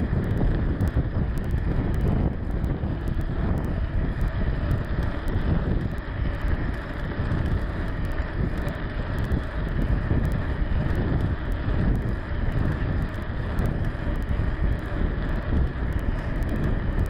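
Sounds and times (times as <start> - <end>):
tyres rumbling on asphalt: 0.0 - 17.0
wind buffeting microphone: 0.0 - 17.0.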